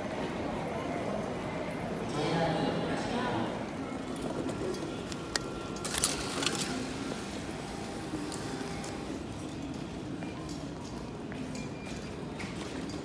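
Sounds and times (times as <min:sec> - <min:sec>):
background hubbub: 0:00.0 - 0:13.0.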